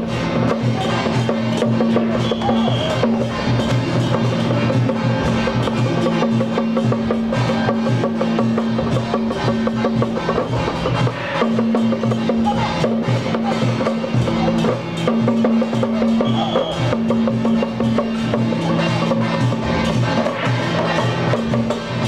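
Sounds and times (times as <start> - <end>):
rapid percussion beat: 0.0 - 22.0.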